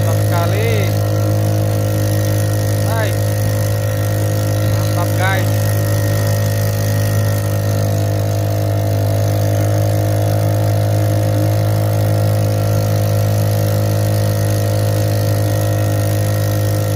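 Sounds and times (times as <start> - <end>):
outboard motor running: 0.0 - 16.9.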